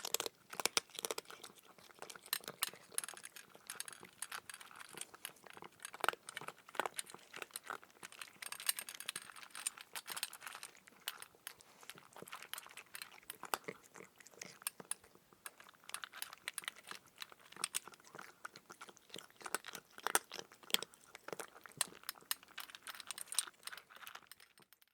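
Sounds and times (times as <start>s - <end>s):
kitten crunching dry food: 0.0s - 24.9s.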